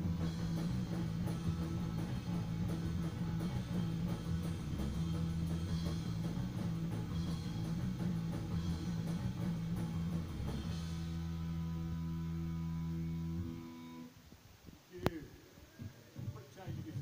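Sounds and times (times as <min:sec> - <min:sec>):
drum kit playing: 0:00.0 - 0:13.9
bass guitar: 0:00.0 - 0:14.1
electric guitar: 0:00.0 - 0:14.1.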